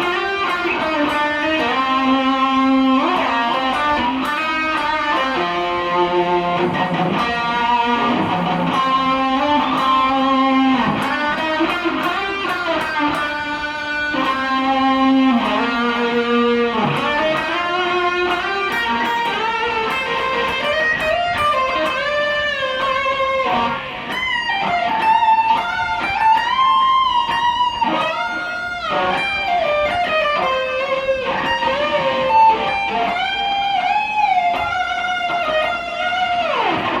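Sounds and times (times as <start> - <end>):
electric guitar lead lines: 0.0 - 37.0.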